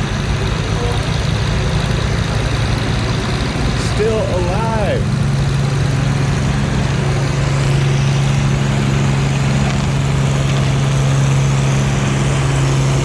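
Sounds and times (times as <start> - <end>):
tractor engine under heavy load: 0.0 - 13.0.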